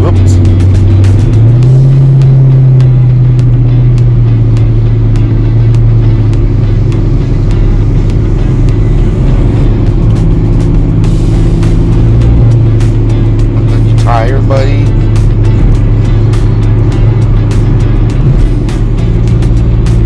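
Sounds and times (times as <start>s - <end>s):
car engine drone in cabin: 0.0s - 20.0s
road noise: 0.0s - 20.0s.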